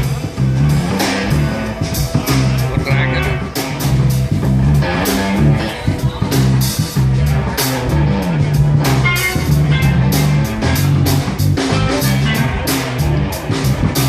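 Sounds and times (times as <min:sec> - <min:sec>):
blues-rock band playing: 0:00.0 - 0:14.0
drum and cymbal hits: 0:00.0 - 0:14.0
held bass notes: 0:00.0 - 0:14.0.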